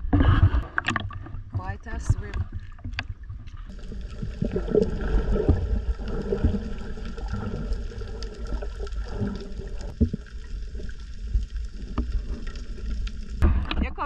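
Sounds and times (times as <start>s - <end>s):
underwater rush and gurgle: 0.0s - 13.8s.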